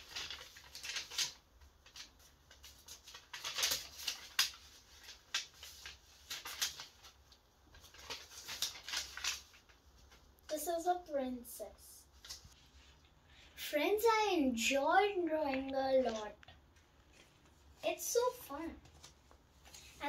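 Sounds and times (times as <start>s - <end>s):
paper rustling and crackling: 0.0s - 10.6s, 12.0s - 13.0s, 15.4s - 20.0s.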